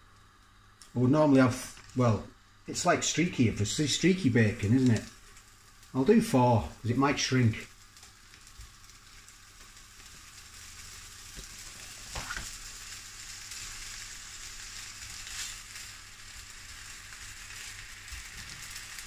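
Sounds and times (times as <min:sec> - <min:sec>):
bacon sizzling in frying pan: 0:01.5 - 0:19.0.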